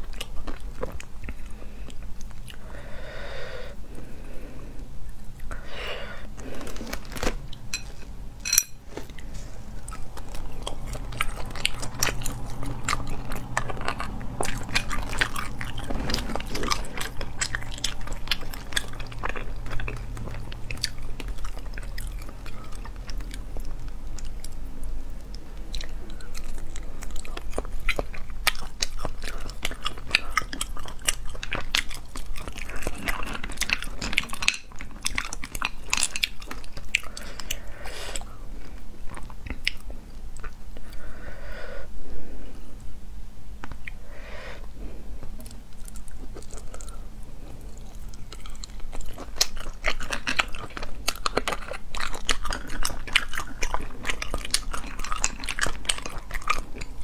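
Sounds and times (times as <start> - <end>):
chewing: 0.0 - 2.7, 6.3 - 41.1, 44.8 - 57.0.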